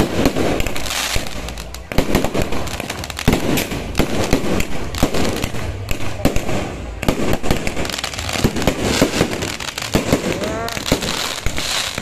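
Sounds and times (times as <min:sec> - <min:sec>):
fireworks bangs and crackling: 0:00.0 - 0:12.0
fireworks booms: 0:00.0 - 0:12.0.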